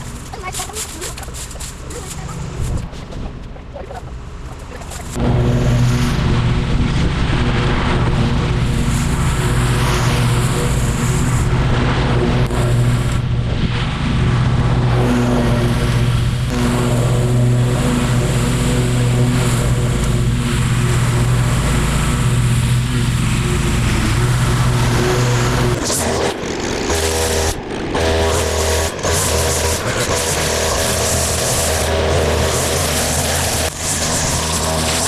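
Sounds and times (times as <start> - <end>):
engine running under load: 0.0 - 35.0.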